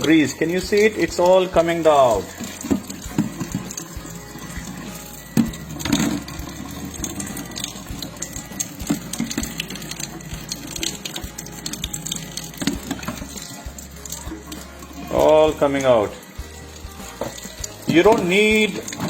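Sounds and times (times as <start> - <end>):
metal filter clinking and rattling: 0.0 - 19.0
water running onto metal mesh: 0.0 - 19.0.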